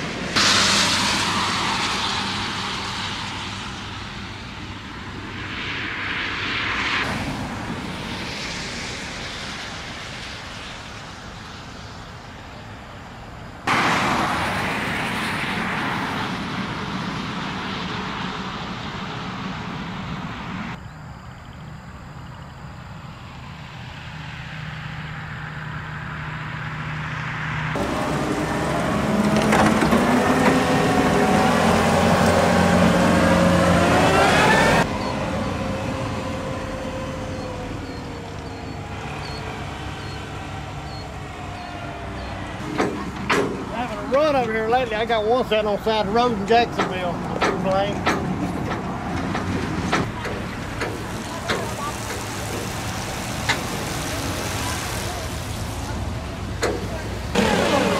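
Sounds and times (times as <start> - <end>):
passing vehicle engine: 0.0 - 12.0, 13.7 - 20.8, 23.1 - 57.9
traffic noise: 0.0 - 57.9
wind: 0.0 - 57.9.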